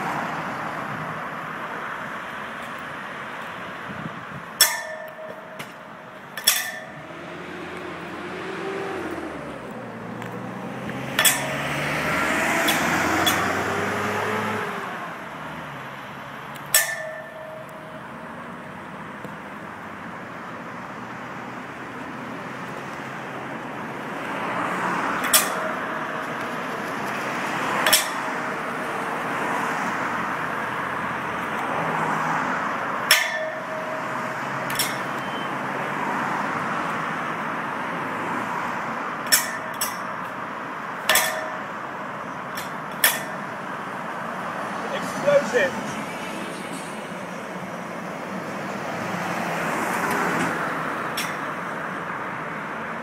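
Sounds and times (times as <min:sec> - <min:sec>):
passing road traffic: 0:00.0 - 0:53.0.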